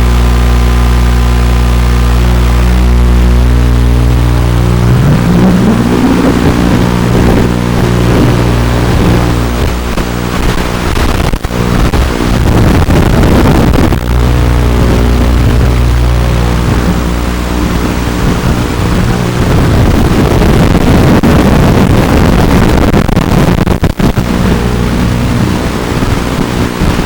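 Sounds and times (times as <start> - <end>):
rough wind noise: 0.0 - 27.0.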